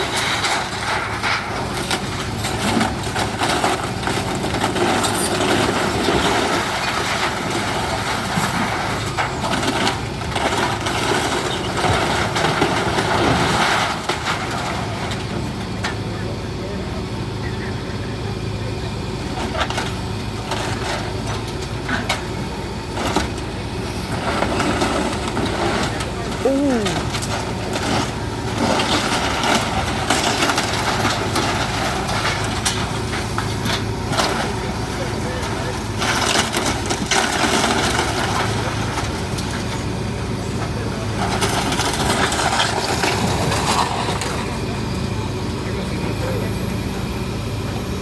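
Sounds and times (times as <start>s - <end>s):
building cracking and crunching: 0.0s - 16.1s, 19.3s - 46.5s
heavy demolition machinery running: 0.0s - 48.0s.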